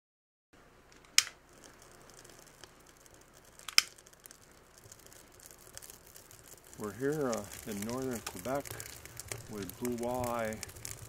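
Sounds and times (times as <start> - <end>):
wood fire crackling: 0.6 - 11.0
logs popping sharply: 1.0 - 11.0.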